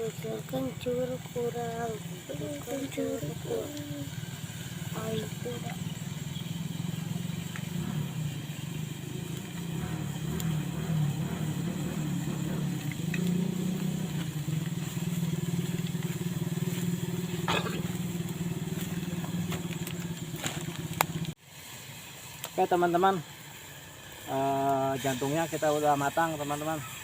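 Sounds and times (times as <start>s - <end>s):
small engine humming: 0.0s - 27.0s.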